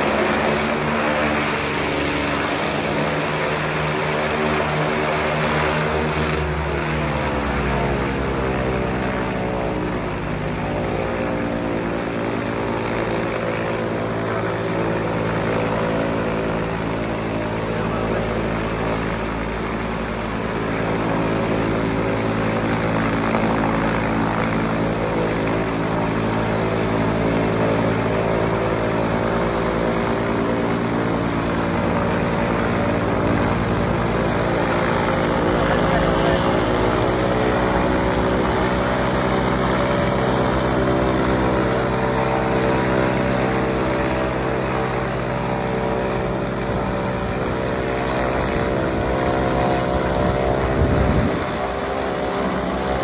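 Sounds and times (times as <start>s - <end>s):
turboprop engines droning: 0.0s - 53.0s.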